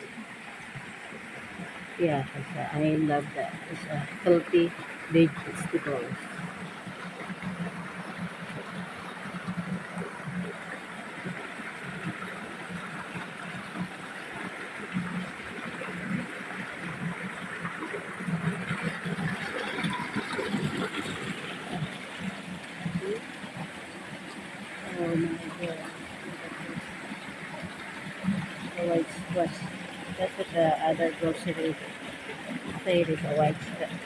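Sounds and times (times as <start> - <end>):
water running over rocks: 0.0 - 34.0.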